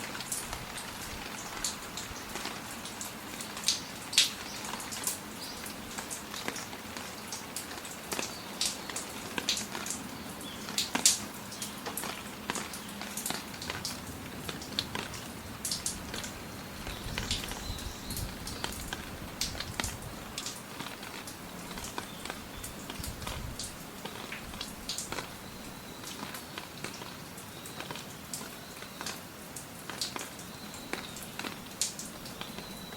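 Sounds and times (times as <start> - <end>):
raindrops landing close by: 0.0 - 32.9
steady rain hiss: 0.0 - 32.9.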